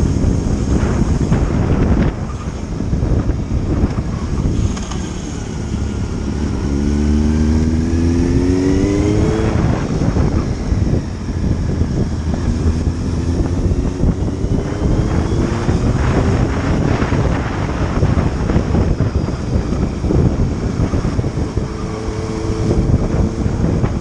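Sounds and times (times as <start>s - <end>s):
motorcycle engine accelerating: 0.0s - 24.0s
wind noise on microphone: 0.0s - 24.0s.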